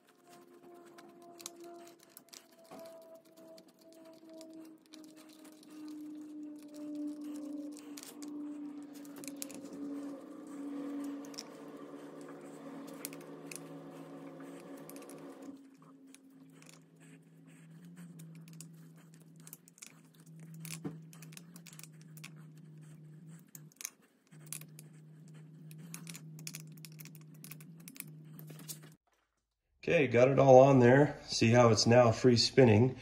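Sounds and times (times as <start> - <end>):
allen key clicking and scraping: 0.0 - 29.0
low hum: 0.0 - 29.0.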